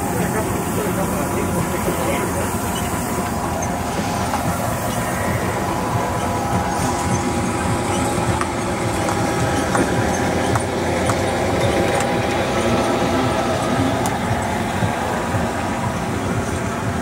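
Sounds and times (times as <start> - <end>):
steam engine clatter: 0.0 - 17.0.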